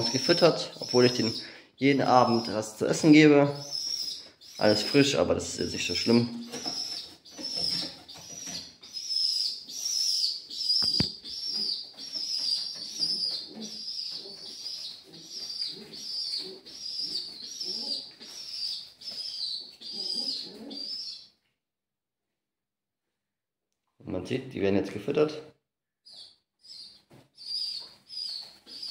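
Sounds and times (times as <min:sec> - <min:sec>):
young pigeon squeaky peeping: 0:00.0 - 0:21.4, 0:26.0 - 0:28.9.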